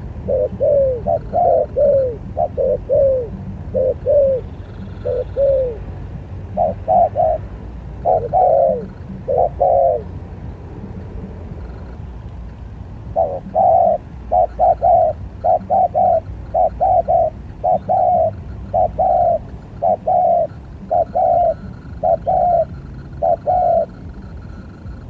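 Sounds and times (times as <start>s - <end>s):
dove cooing: 0.0s - 12.1s, 13.0s - 25.0s.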